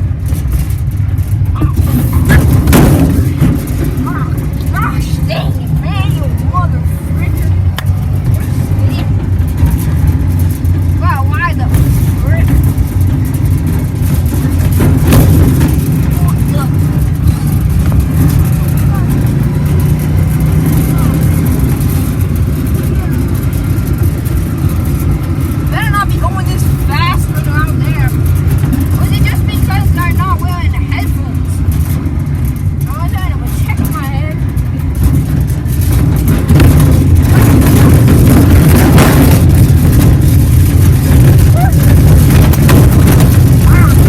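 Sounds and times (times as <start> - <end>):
rattling: 0.0 - 44.0
riding lawn mower engine: 0.0 - 44.0.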